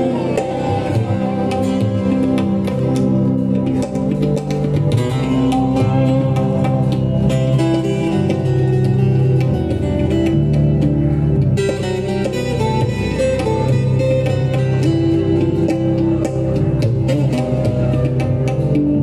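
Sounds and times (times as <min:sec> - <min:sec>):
acoustic guitar: 0:00.0 - 0:19.0
keyboard sustained notes: 0:00.0 - 0:19.0
tabla drumming: 0:00.0 - 0:19.0.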